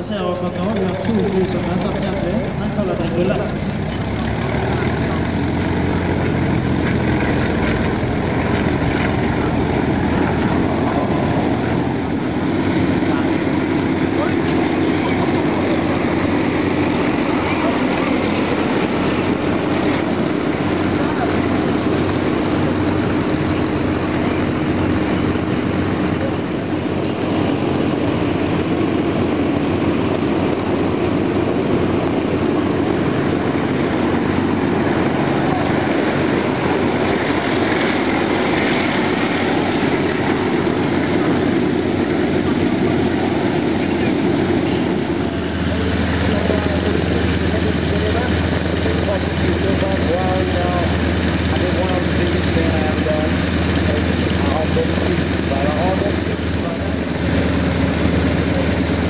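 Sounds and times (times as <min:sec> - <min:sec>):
propeller aircraft engines: 0:00.0 - 0:59.0.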